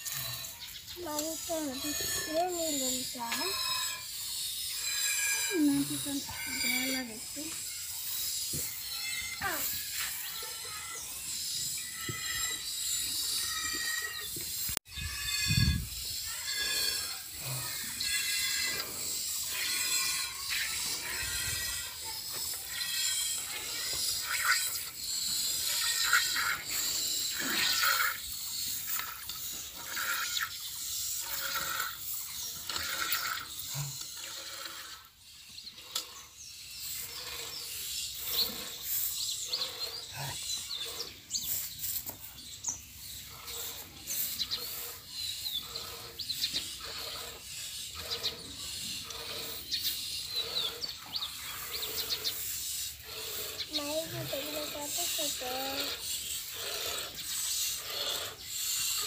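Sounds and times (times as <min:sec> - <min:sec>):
birds chirping: 0:00.0 - 0:34.0, 0:34.6 - 0:59.0.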